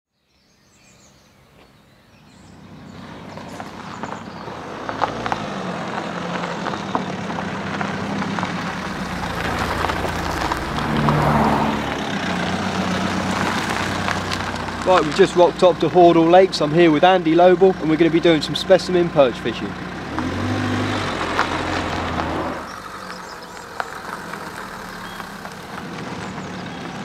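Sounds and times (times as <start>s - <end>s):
car engine hum: 2.1s - 27.0s
tyres crunching on gravel: 2.4s - 27.0s.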